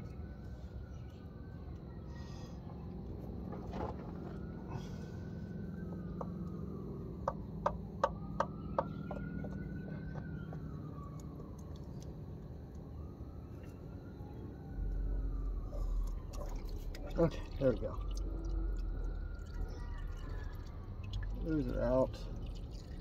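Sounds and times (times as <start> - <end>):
faint siren wailing: 0.0 - 23.0
low steady hum: 0.0 - 23.0.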